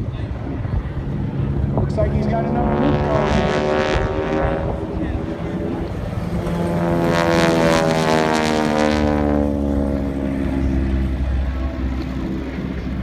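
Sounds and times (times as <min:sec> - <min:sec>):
propeller plane passing: 0:00.0 - 0:13.0.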